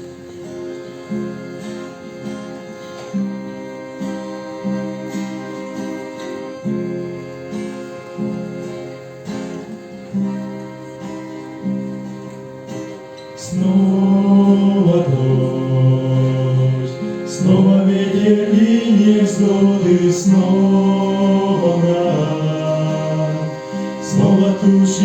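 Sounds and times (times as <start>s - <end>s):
long held melody line: 0.0s - 25.0s
plucked acoustic guitar: 0.0s - 25.0s.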